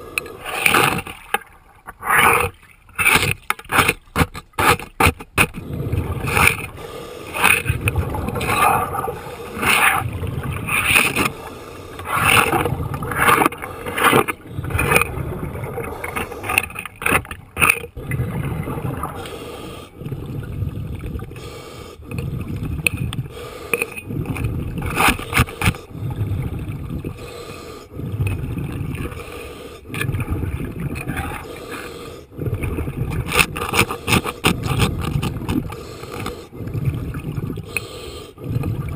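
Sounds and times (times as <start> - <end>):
exhaled bubbles rumbling: 5.5 - 23.4, 24.0 - 31.7, 32.3 - 37.8, 38.4 - 38.9.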